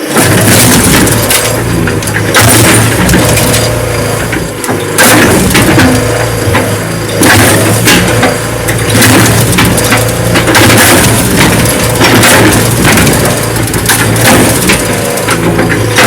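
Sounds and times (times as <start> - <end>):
diesel engine hum: 0.0 - 16.0
lawnmower body crunching and cracking: 0.0 - 16.0.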